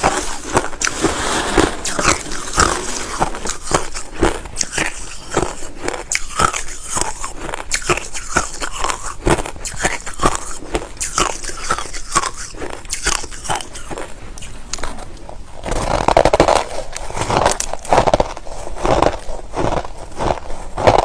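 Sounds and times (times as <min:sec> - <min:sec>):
crunching ice being chewed: 0:00.0 - 0:21.0.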